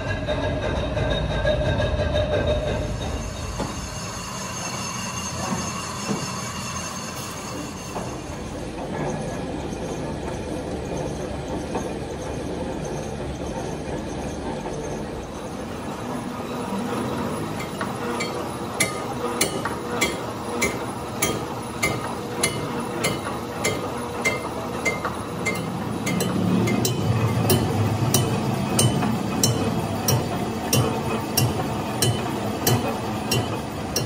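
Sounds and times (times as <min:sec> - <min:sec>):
lathe running and cutting: 0:00.0 - 0:34.0.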